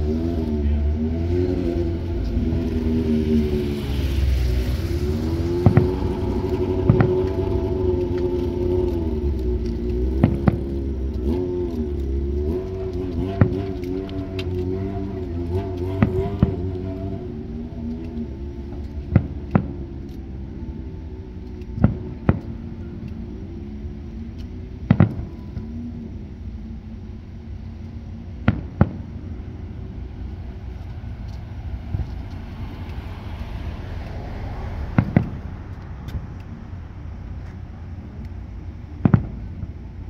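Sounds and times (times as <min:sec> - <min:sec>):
steady low rumble: 0:00.0 - 0:40.0.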